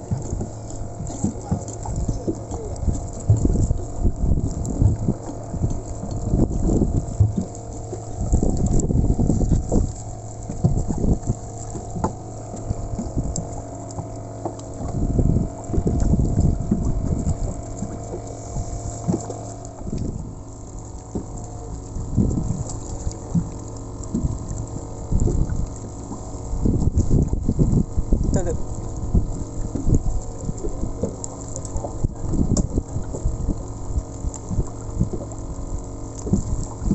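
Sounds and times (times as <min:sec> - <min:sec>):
low thumps and knocks: 0:00.0 - 0:28.4, 0:29.0 - 0:35.4, 0:36.2 - 0:36.9
small motor humming: 0:00.0 - 0:36.9.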